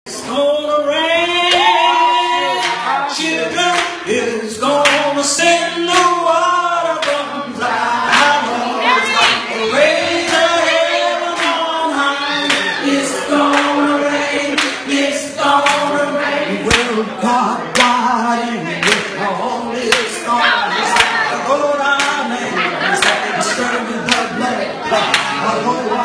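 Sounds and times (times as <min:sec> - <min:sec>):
group of voices singing: 0:00.1 - 0:26.0.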